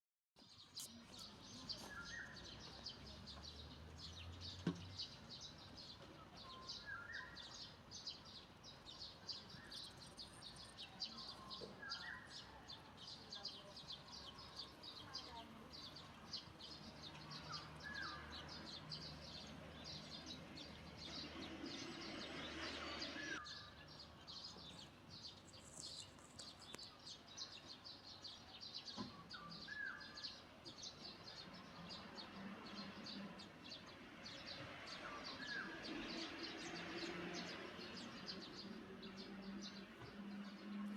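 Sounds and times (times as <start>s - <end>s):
birds chirping rapidly: 0.4s - 40.9s.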